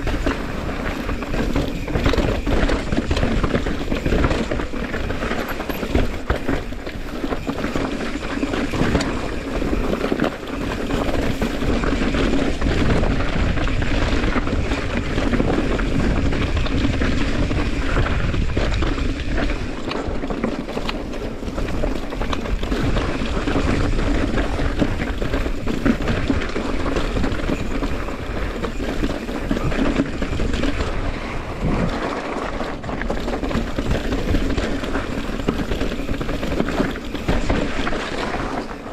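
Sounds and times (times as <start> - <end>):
bike rattling over stones: 0.0 - 38.9
bike tyres on dirt: 0.0 - 38.9
wind on microphone: 0.0 - 38.9.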